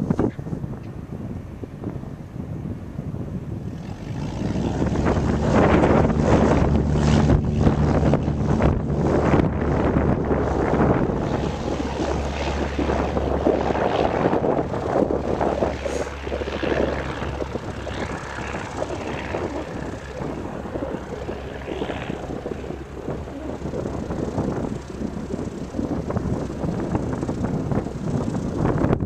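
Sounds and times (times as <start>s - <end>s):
propeller airplane engine: 0.0s - 29.0s.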